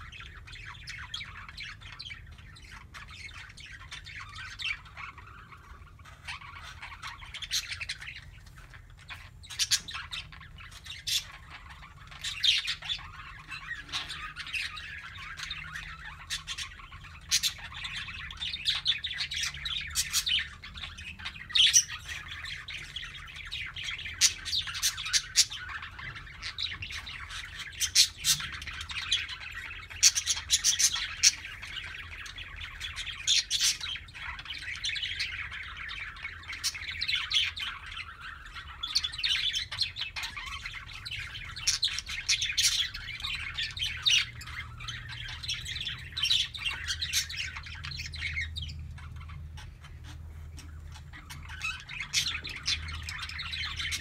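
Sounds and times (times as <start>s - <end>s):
bird chirps and squawks: 0.0s - 54.0s
budgerigars chattering and warbling: 0.0s - 54.0s.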